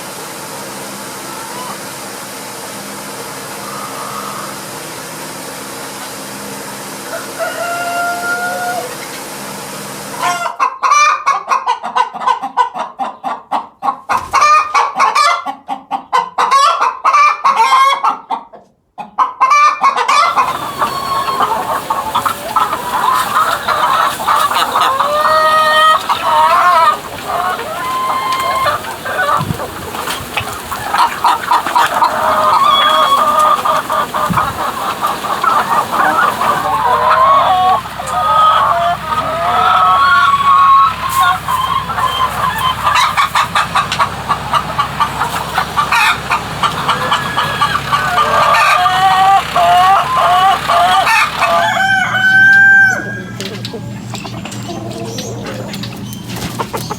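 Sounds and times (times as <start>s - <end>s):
chickens clucking: 0.0s - 56.9s
chickens making long calls: 0.0s - 56.9s.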